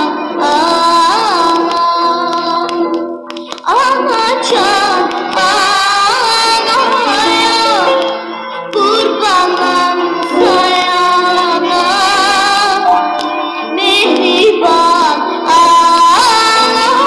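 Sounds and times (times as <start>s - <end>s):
instrumental accompaniment: 0.0s - 17.0s
woman singing: 0.0s - 17.0s.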